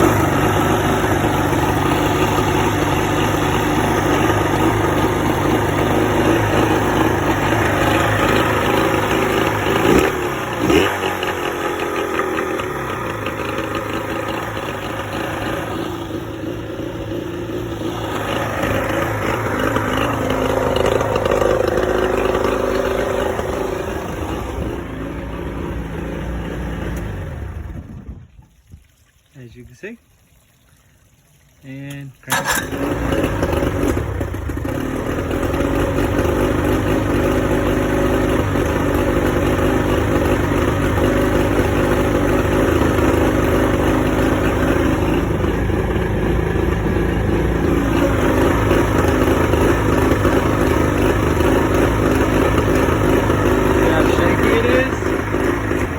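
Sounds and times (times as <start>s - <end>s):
outboard motor idling unevenly: 0.0s - 28.4s, 29.4s - 55.9s.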